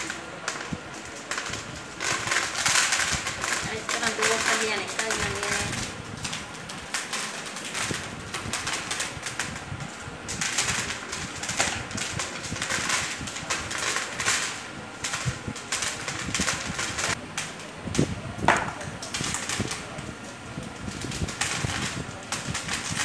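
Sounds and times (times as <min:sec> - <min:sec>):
kernels pattering into plastic tub: 0:00.0 - 0:23.0.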